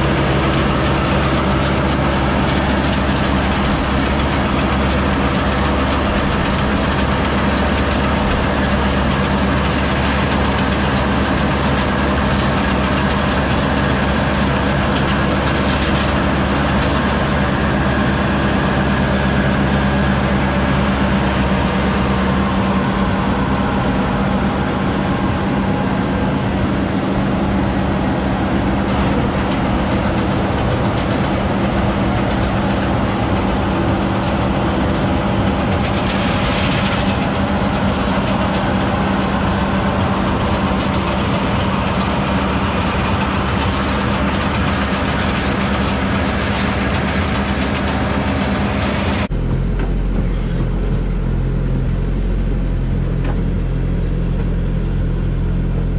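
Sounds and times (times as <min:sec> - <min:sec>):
harvester engine running: 0:00.0 - 0:55.9.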